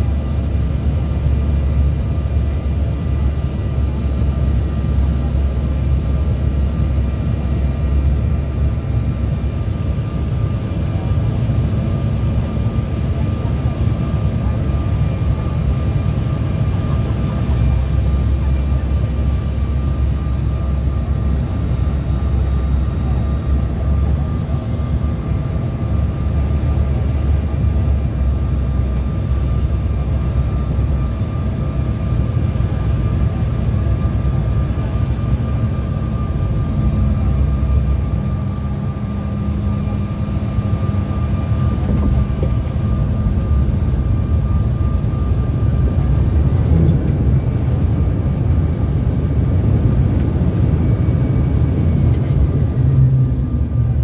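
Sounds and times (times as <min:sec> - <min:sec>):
airliner engine rumble: 0:00.0 - 0:54.0.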